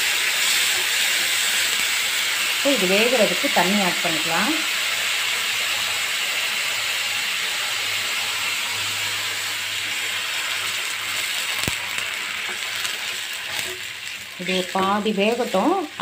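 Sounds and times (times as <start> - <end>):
water sizzling in hot pan: 0.0 - 16.0.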